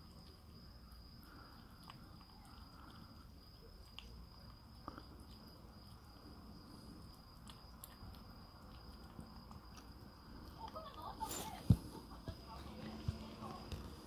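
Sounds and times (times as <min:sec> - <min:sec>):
kitten chewing and licking: 0:00.0 - 0:14.0.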